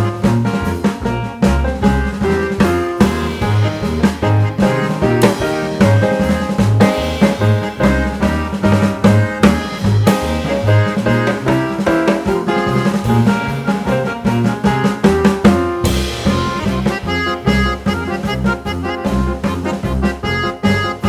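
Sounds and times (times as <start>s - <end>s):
background music with drums and bass: 0.0s - 21.0s.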